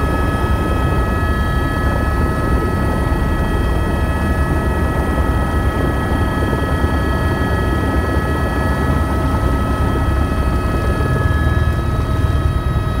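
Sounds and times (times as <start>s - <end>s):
helicopter rotor drone: 0.0s - 13.0s
turbine engine whining: 0.0s - 13.0s.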